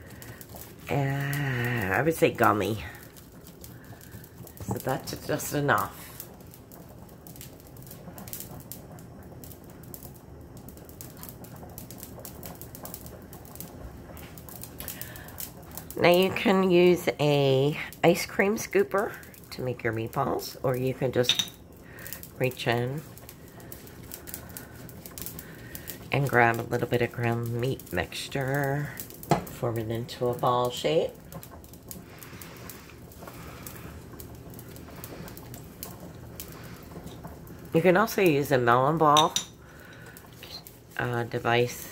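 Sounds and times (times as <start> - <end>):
faint irregular clicks and crackles: 0.0 - 41.9
low steady background noise: 0.0 - 41.9.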